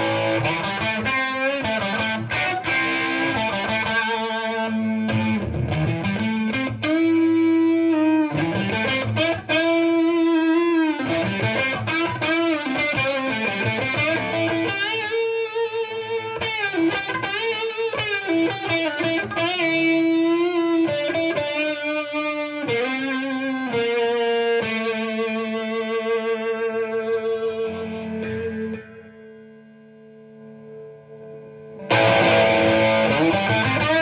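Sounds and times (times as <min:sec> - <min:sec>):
overdriven electric guitar lead: 0:00.0 - 0:34.0.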